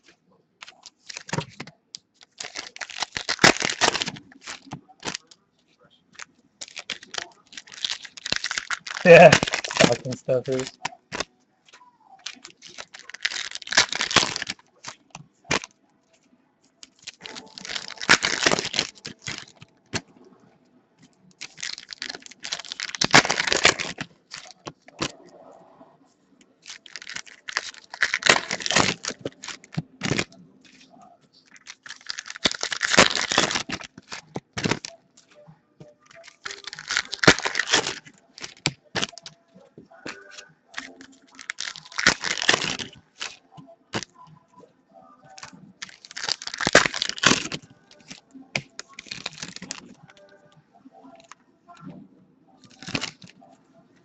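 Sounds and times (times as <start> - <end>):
wrappers tearing and crinkling: 0.6 - 5.4, 6.2 - 11.3, 12.2 - 15.7, 16.8 - 20.0, 21.4 - 25.2, 26.6 - 35.4, 36.0 - 44.1, 45.3 - 50.4, 52.6 - 53.5.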